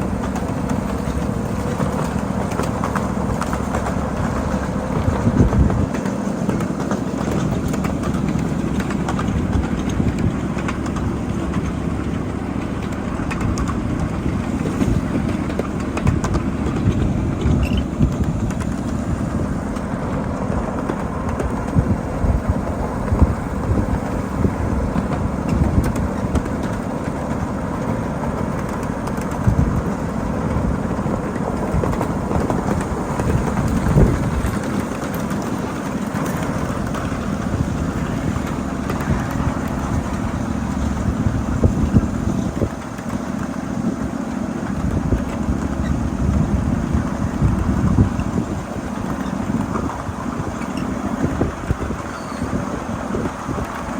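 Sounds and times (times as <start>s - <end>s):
clicks and knocks of wheels: 0.0s - 53.9s
miniature train rolling on track: 0.0s - 53.9s.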